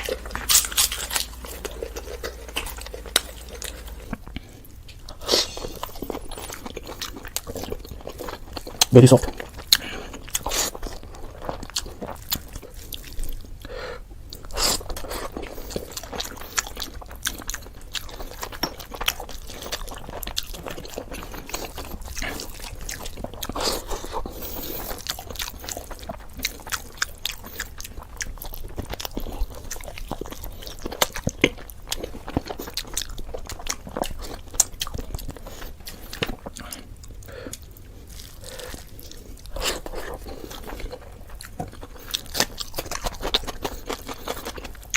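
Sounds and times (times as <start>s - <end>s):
chewing and biting food: 0.0s - 44.9s.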